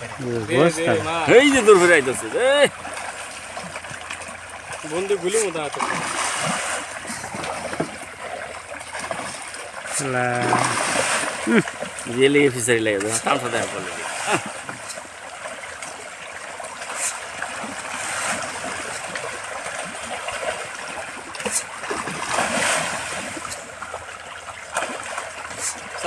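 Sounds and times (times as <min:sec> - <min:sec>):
fish splashing water surface: 0:00.0 - 0:26.0
loud splashes: 0:00.0 - 0:26.0.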